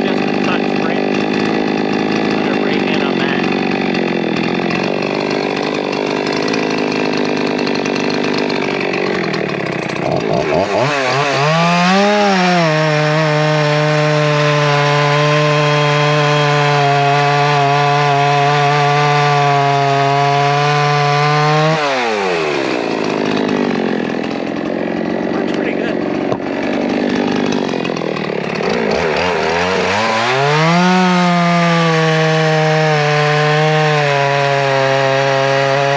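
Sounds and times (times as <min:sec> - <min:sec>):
chainsaw revving at full throttle: 0:00.0 - 0:35.9.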